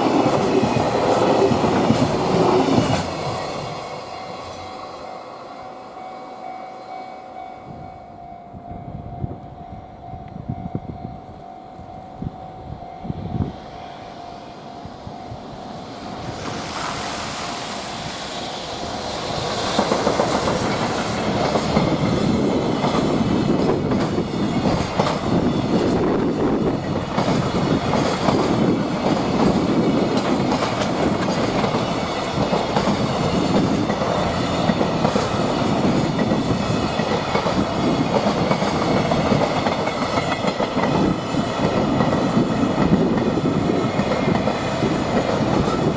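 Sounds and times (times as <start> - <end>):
freight train rumbling past: 0.0 - 45.9.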